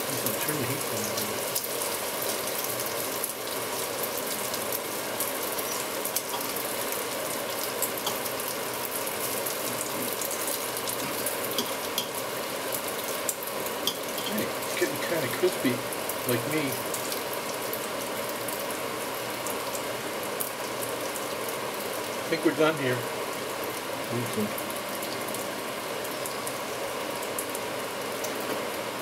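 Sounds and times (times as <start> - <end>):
bacon sizzling in frying pan: 0.0 - 29.0.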